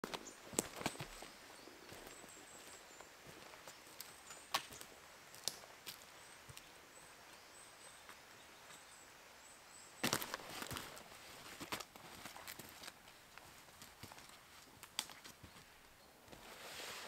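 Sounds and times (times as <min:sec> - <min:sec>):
footsteps on dry twigs: 0:00.0 - 0:07.4, 0:10.0 - 0:17.0.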